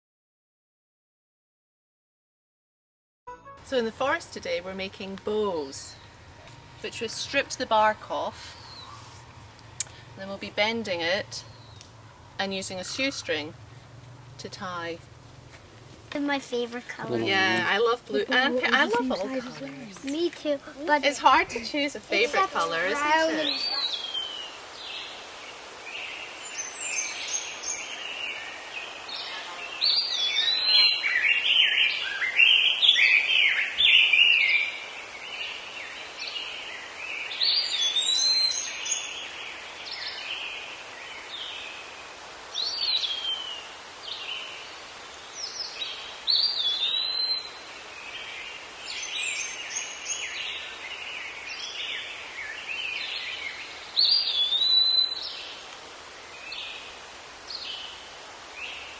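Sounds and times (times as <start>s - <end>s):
songbirds singing: 3.7s - 15.4s, 16.8s - 58.9s.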